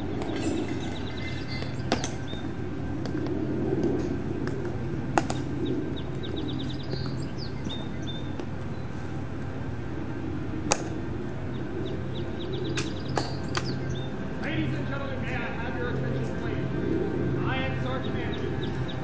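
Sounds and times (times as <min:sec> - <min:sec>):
small birds chirping: 0:00.0 - 0:03.3, 0:04.0 - 0:09.7, 0:11.0 - 0:19.0
low outdoor hum: 0:00.0 - 0:19.0.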